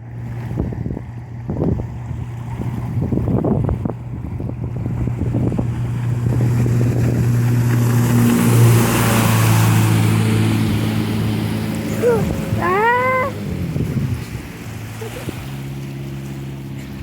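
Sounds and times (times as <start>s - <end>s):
boat engine running: 0.0s - 17.0s
rush of water: 0.0s - 17.0s
wind: 0.0s - 17.0s.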